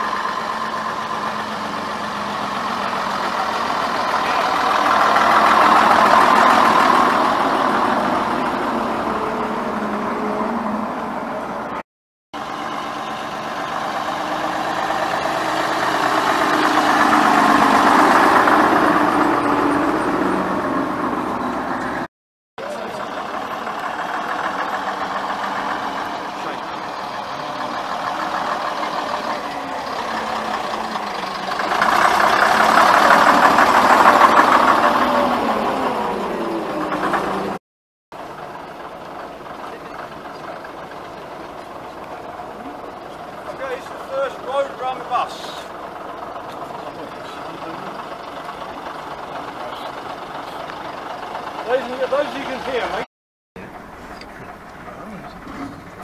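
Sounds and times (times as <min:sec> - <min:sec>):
bus diesel engines driving past: 0:00.0 - 0:11.8, 0:12.4 - 0:37.6, 0:38.2 - 0:56.0.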